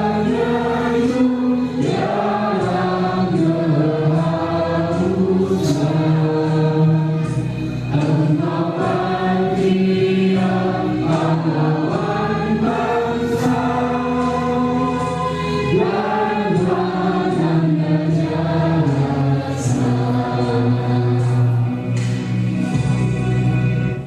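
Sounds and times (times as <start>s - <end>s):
choir singing in harmony: 0.0s - 22.9s.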